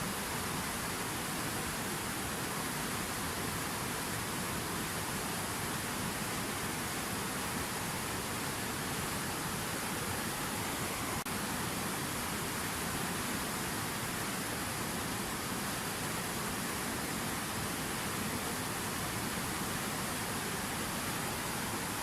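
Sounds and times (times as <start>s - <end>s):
fountain water rushing: 0.0s - 22.0s.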